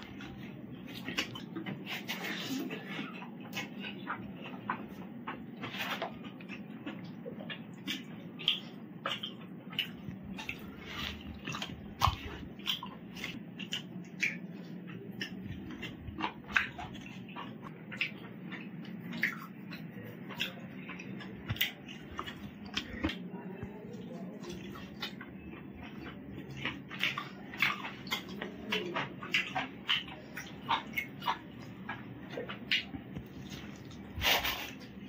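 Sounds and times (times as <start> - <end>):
low steady hum: 0.0 - 35.0
man chewing food: 0.0 - 35.0.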